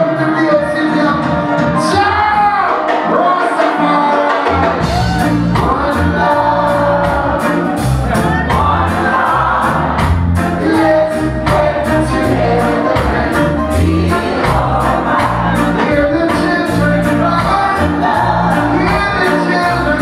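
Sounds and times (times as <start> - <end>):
lead singer singing: 0.0 - 20.0
live reggae band playing: 0.0 - 20.0.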